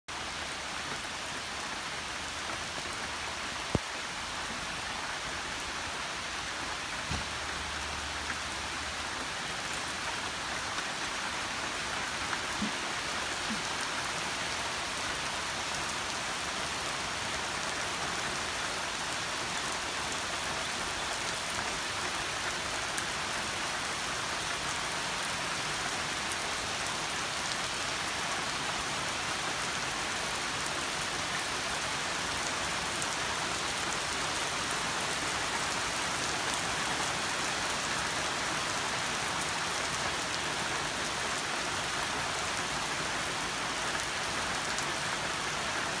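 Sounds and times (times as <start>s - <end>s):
heavy rain on water and paving: 0.0s - 46.0s.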